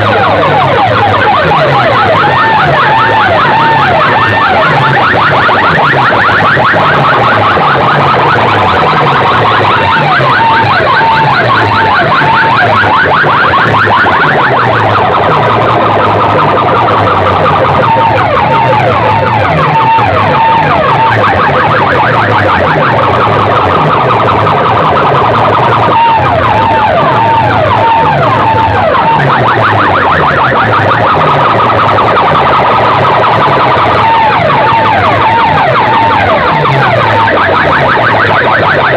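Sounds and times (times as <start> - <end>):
warbling siren tones: 0.0 - 38.9.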